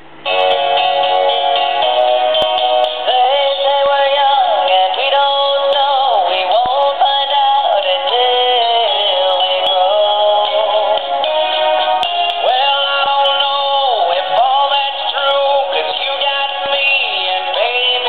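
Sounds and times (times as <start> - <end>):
electronic backing music: 0.1 - 18.0
synthesized singing voice: 2.6 - 11.6, 12.3 - 18.0.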